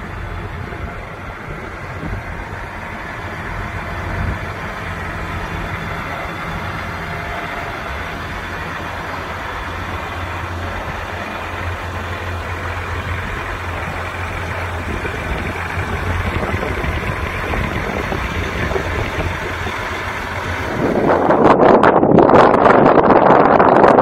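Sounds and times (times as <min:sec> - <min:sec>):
tractor diesel engine idling: 0:00.0 - 0:21.8.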